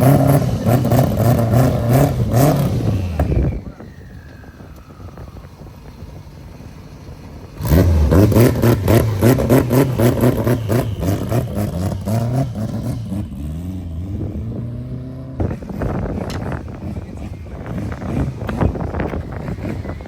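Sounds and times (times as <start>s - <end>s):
car engine revving hard: 0.0s - 3.9s, 7.5s - 20.0s.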